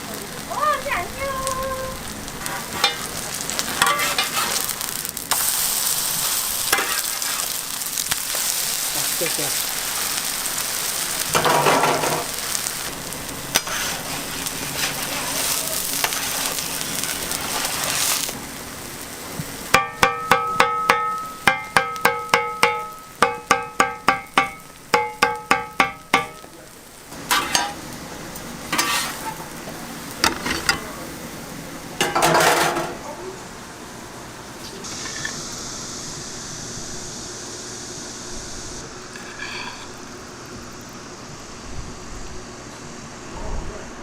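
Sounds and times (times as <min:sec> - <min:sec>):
pancake sizzling in oil: 0:00.0 - 0:43.3.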